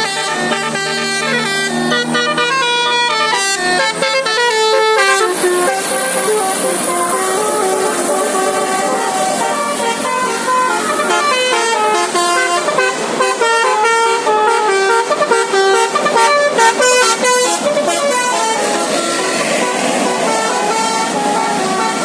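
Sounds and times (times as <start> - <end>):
bus musical air horn playing tune: 0.0 - 22.0.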